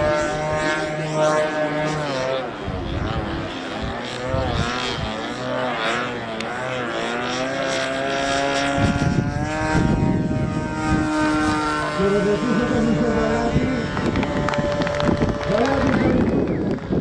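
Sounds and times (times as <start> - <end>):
wind buffeting microphone: 0.0 - 5.4, 7.5 - 17.0
model aeroplane engine: 0.0 - 17.0.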